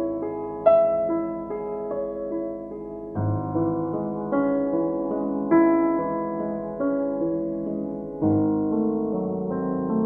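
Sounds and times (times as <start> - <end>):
slow piano notes: 0.0 - 10.0.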